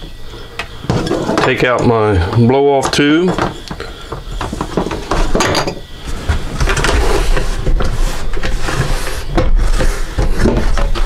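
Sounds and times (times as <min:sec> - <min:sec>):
plastic lid creaking and scraping: 0:00.0 - 0:11.0.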